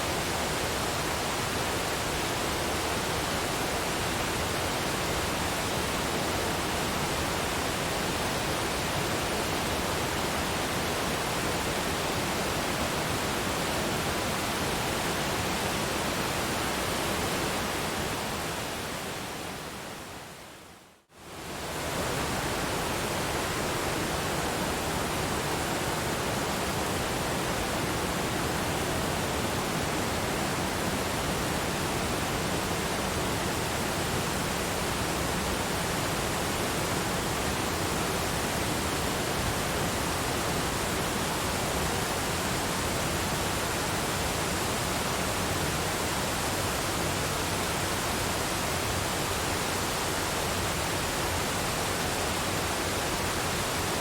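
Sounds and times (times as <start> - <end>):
waterfall: 0.0 - 54.0.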